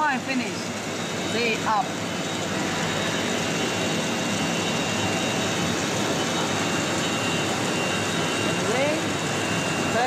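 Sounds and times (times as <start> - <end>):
router motors running: 0.0 - 10.0.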